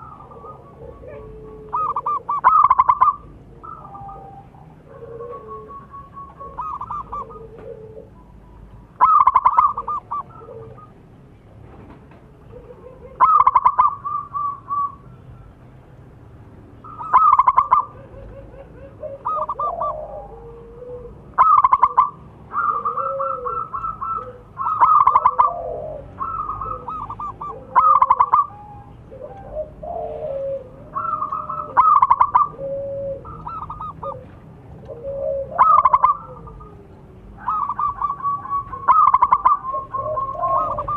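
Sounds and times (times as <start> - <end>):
soft low dove calls: 0.0 - 11.1, 12.3 - 15.7, 16.8 - 40.9
dove cooing staccato phrases: 0.0 - 11.2, 12.1 - 15.7, 16.8 - 40.9.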